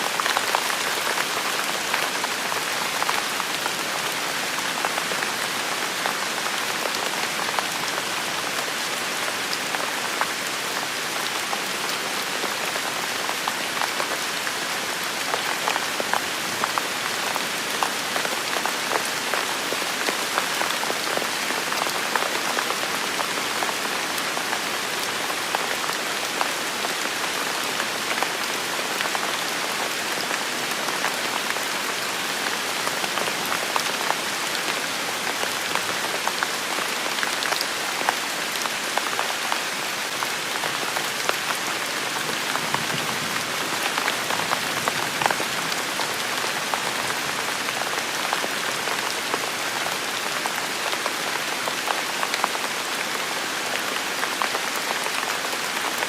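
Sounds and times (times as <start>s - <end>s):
rain pattering on hard surfaces: 0.0s - 56.0s.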